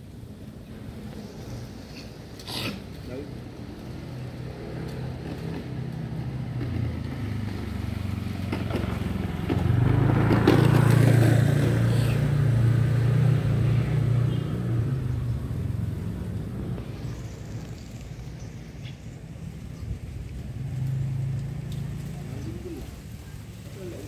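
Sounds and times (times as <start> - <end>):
vehicle engine passing: 3.1 - 24.0.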